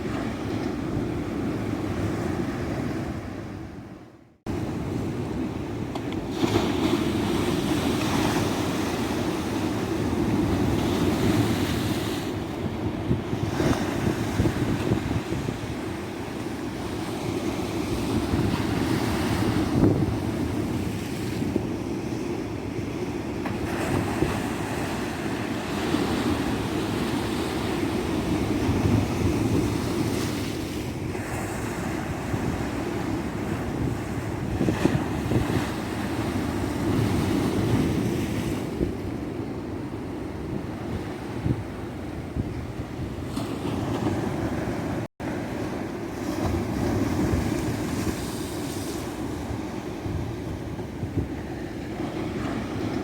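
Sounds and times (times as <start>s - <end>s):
ocean waves breaking: 0.0s - 53.0s.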